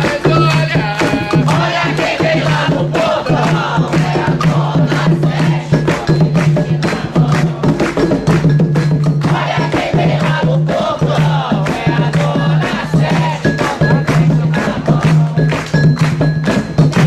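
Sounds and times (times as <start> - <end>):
group chanting: 0.0 - 8.1, 9.0 - 15.9
clacking percussion: 0.0 - 17.0
hand drums beating: 0.0 - 17.0.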